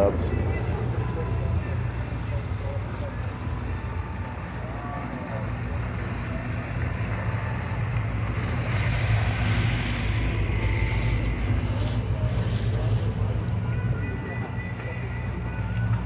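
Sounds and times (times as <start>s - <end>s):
outboard motor running: 0.0s - 16.0s
water rushing past hull: 0.0s - 16.0s.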